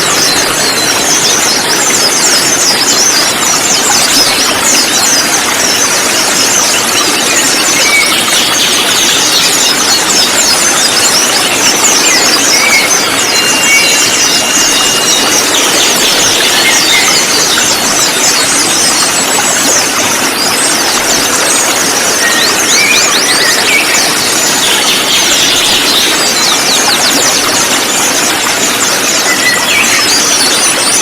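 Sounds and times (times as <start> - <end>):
birds chirping and twittering: 0.0 - 31.0.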